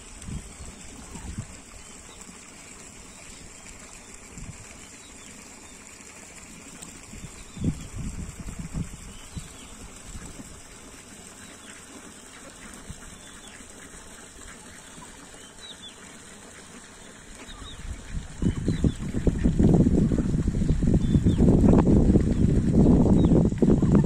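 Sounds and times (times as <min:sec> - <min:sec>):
ducks chirping and calling: 0:00.2 - 0:06.0, 0:06.7 - 0:24.0.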